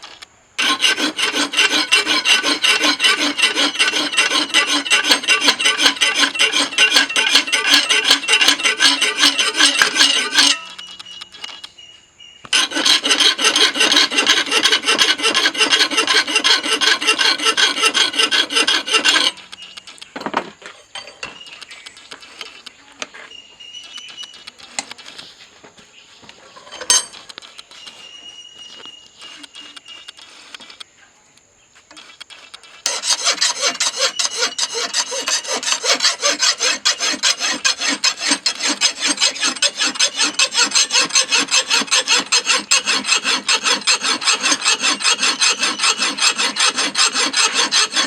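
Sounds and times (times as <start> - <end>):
file rasping on knife blade: 0.6 - 10.9, 12.5 - 20.0, 21.4 - 22.7, 26.8 - 30.8, 31.9 - 48.0.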